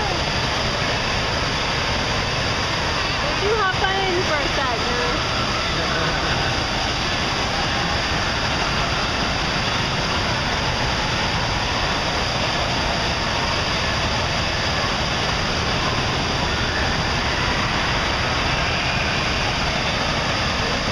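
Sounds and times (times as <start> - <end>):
hot tub jets bubbling water: 0.0 - 20.9.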